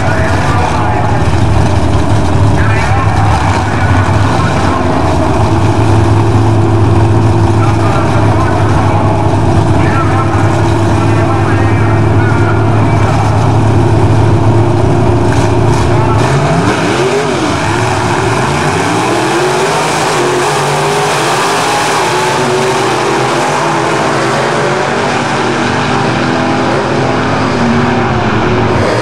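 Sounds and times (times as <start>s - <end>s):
drag car engines revving: 0.0s - 29.0s.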